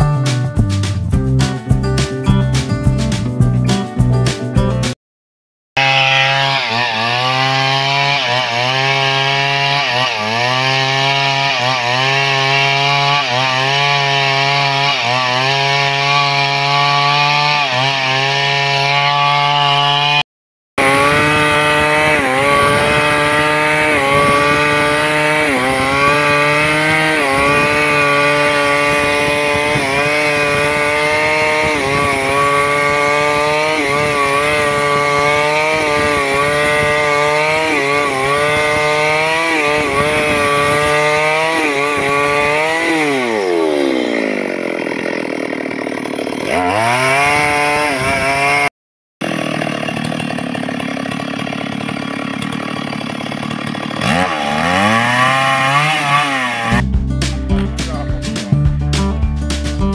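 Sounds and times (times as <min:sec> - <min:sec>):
chainsaw cutting log: 0:05.8 - 0:59.9.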